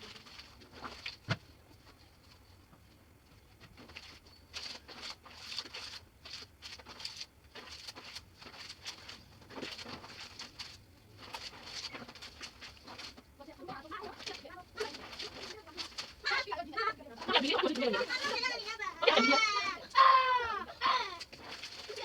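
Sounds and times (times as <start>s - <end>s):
clothes washed by hand in water: 0.0s - 22.0s.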